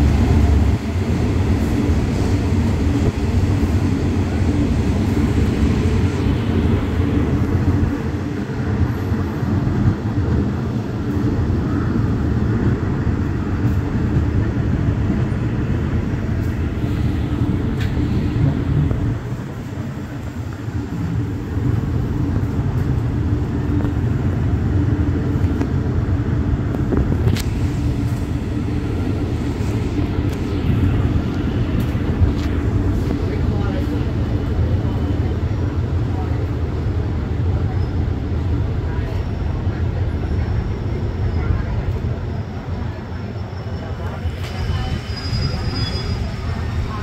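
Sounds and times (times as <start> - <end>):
locomotive diesel engines droning: 0.0 - 47.0
train wheels rumbling on track: 0.0 - 47.0.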